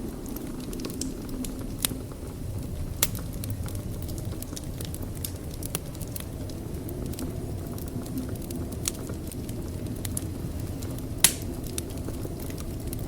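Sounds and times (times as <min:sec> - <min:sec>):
fire snapping and popping: 0:00.0 - 0:13.0
wood fire crackling: 0:00.0 - 0:13.0.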